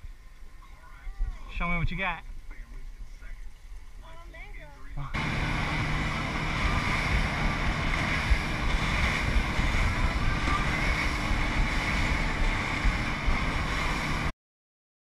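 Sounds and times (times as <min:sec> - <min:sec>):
boat engine rumble: 0:00.0 - 0:14.3
rushing water: 0:00.0 - 0:14.3
wind on microphone: 0:00.0 - 0:14.3.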